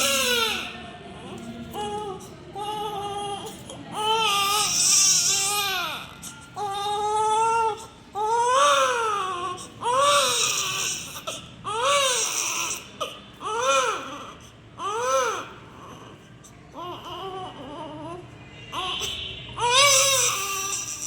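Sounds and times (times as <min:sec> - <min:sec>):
baby crying: 0:01.8 - 0:16.2, 0:16.8 - 0:21.0.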